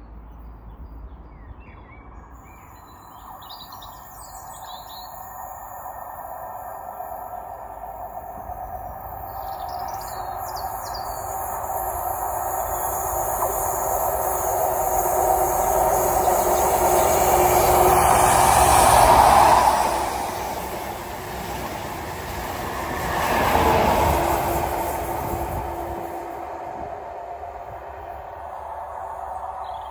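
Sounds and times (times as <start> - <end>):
diesel train passing: 2.0 - 29.9.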